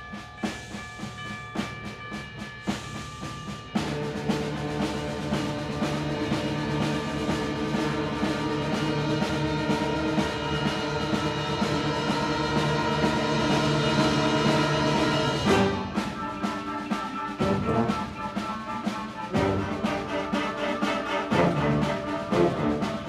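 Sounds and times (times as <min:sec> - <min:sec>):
concert band wind chords: 0:00.0 - 0:23.0
drum and timpani strokes: 0:00.0 - 0:23.0.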